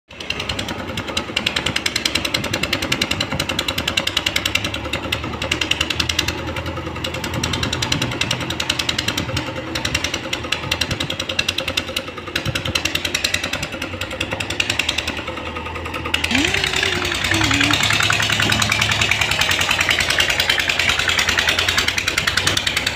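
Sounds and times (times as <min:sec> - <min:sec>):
diesel engine clattering under load: 0:00.1 - 0:22.9.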